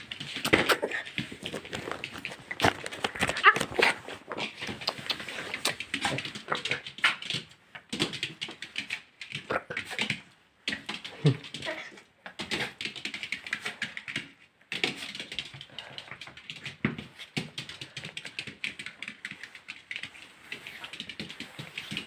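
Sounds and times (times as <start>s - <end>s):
dog claws clicking on hard floor: 0.0s - 22.0s.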